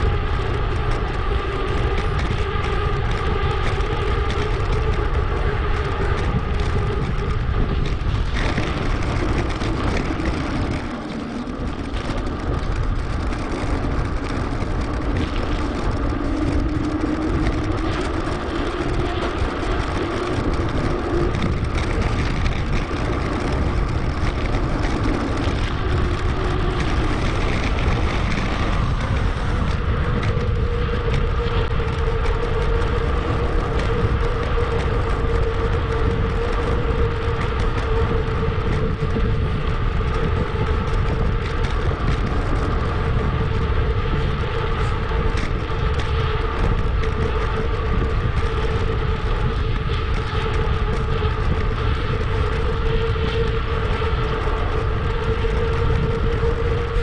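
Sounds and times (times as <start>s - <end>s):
bike tyre noise on path: 0.0s - 57.0s
wind rush on microphone: 0.0s - 57.0s.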